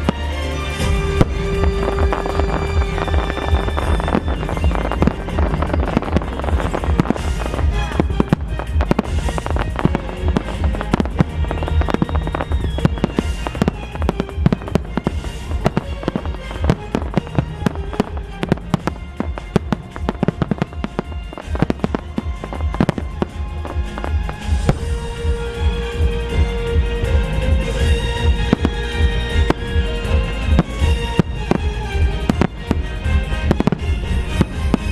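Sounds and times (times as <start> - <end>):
fireworks bangs and crackling: 0.0 - 34.9
booming shells rumble: 0.8 - 34.9.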